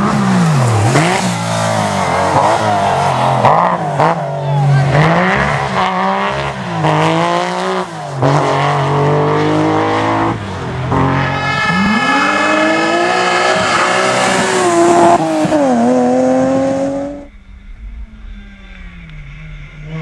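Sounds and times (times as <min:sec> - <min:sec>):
rally car engine revving: 0:00.0 - 0:17.4.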